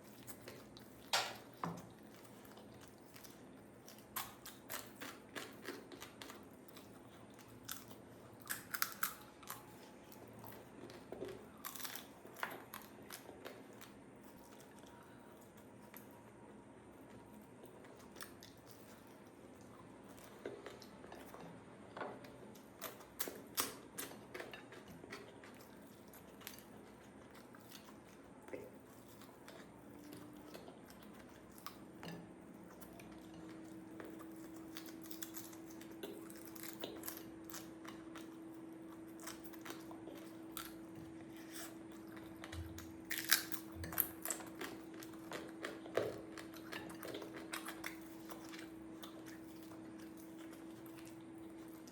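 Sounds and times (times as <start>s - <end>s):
chewing and mouth clicks: 0.0s - 16.3s, 17.0s - 51.9s
food crunching and crackling: 0.0s - 51.9s.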